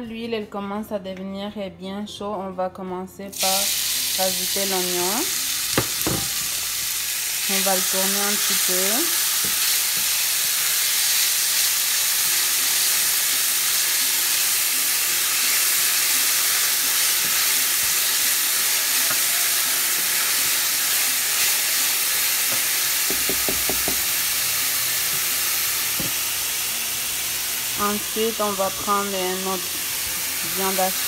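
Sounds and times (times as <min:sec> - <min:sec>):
onion sizzling in oil: 0:03.3 - 0:31.0.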